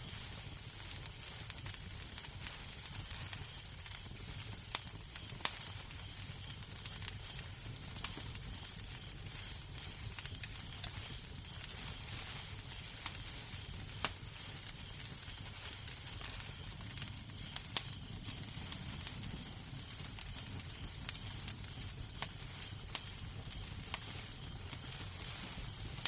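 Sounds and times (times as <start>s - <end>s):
fire pops and snaps: 0.0s - 26.0s
wood fire crackling: 0.0s - 26.0s.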